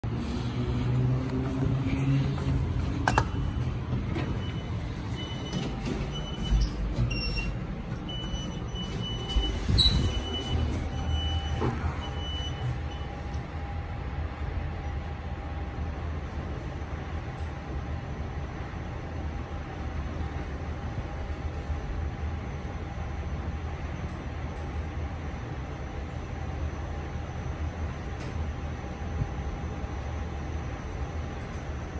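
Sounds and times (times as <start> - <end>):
lift mechanical hum: 0.0 - 31.9.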